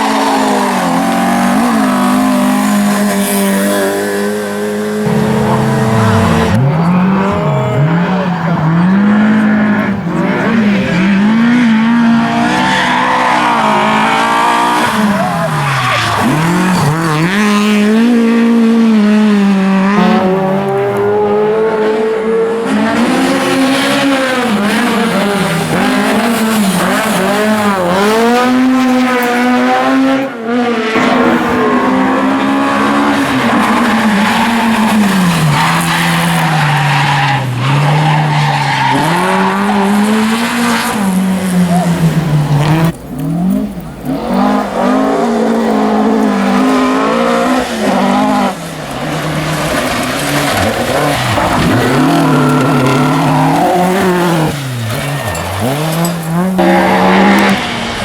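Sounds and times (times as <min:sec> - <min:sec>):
rally car engine at full throttle: 0:00.0 - 0:58.0.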